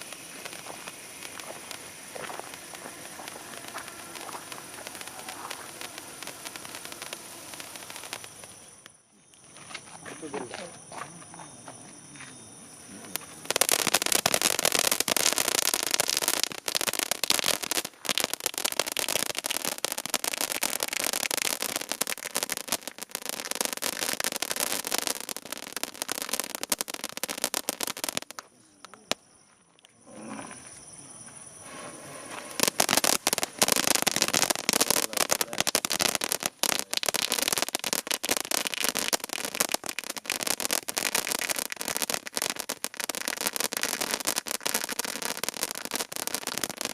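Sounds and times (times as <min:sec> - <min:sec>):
fireworks crackling sparks: 0:00.0 - 0:29.2, 0:31.4 - 0:46.9.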